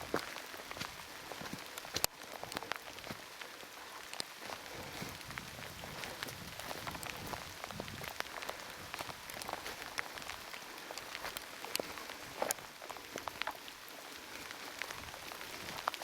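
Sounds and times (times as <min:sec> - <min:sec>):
heavy rain: 0:00.0 - 0:16.0
raindrops tapping close by: 0:00.0 - 0:16.0.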